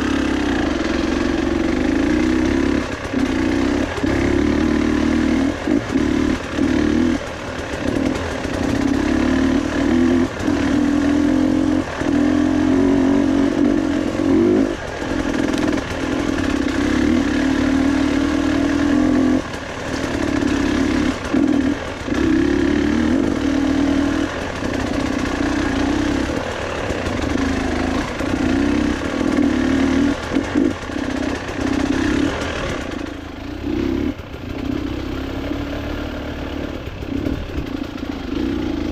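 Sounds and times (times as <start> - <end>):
motorcycle engine: 0.0 - 38.9.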